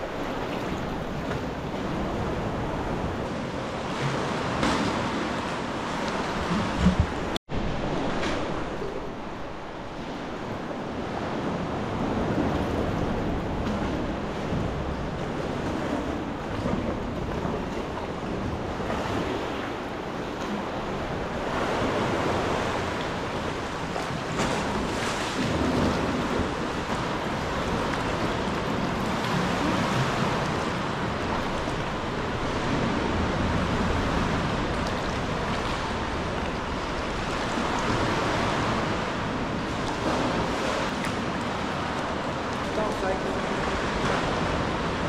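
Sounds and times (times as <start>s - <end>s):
sea water sloshing in cave: 0.0s - 45.0s.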